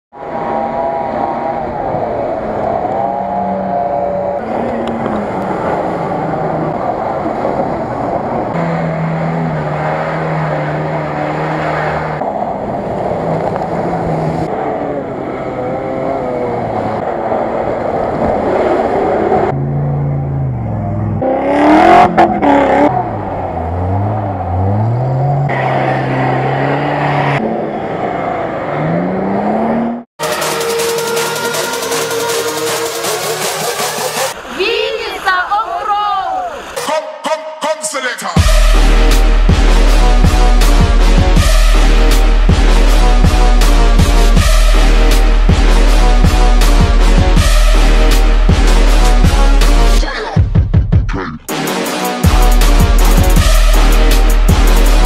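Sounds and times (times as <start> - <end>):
engines revving hard: 0.2 - 35.5, 38.4 - 50.6, 51.5 - 55.0.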